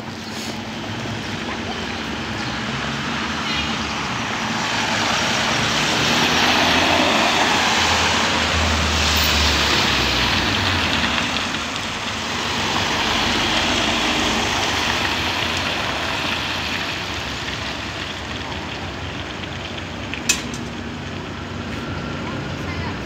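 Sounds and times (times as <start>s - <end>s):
cars driving past: 0.0s - 23.0s.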